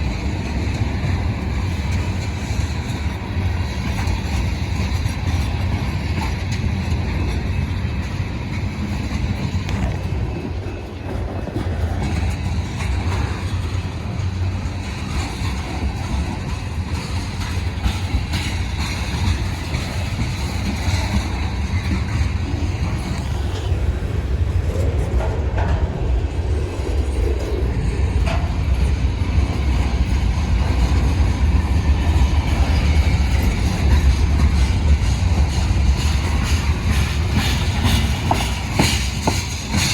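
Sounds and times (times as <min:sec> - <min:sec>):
freight train rumbling by: 0:00.0 - 0:39.9.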